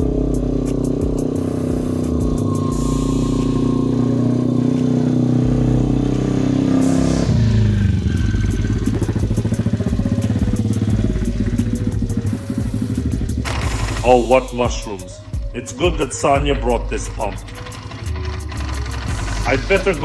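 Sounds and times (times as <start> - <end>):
small engine running: 0.0 - 15.0, 16.8 - 20.0.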